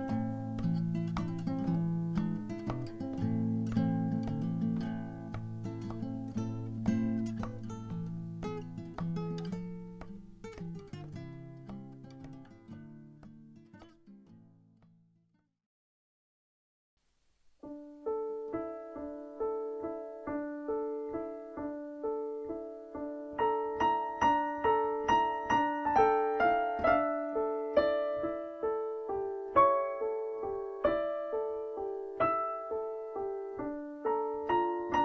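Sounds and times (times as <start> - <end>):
piano melody: 0.0 - 12.1, 17.6 - 35.0.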